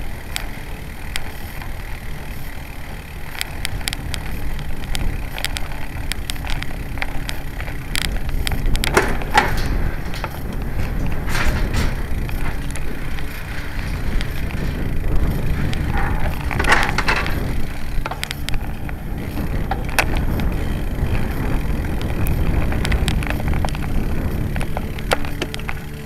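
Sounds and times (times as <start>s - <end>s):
bike tyres rumbling: 0.0s - 26.0s
rattling clicks: 0.0s - 26.0s
wind on microphone: 0.0s - 26.0s.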